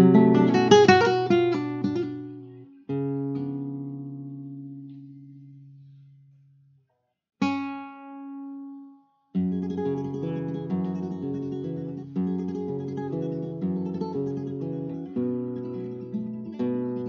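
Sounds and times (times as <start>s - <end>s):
guitar picked pattern: 0.0s - 6.3s, 7.4s - 17.0s.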